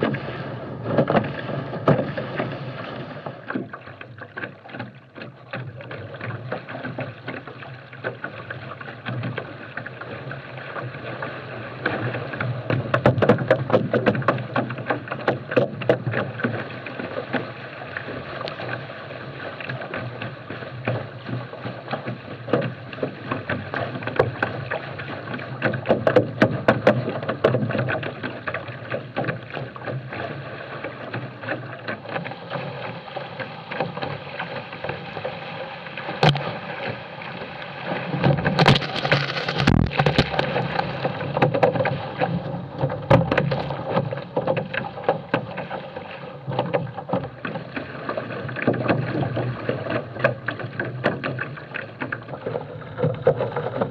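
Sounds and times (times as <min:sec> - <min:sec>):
water rushing against a boat hull: 0:00.0 - 0:53.9
water splashes: 0:00.0 - 0:53.9.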